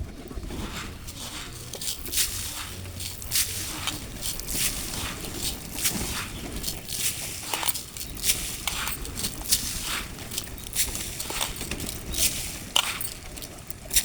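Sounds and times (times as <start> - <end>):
birds pecking at grain: 0.0 - 14.0.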